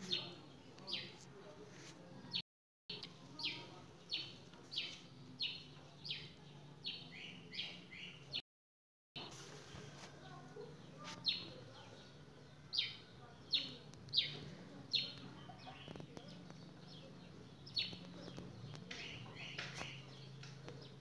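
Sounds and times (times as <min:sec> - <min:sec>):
bird chirping: 0:02.3 - 0:08.4, 0:10.3 - 0:21.0.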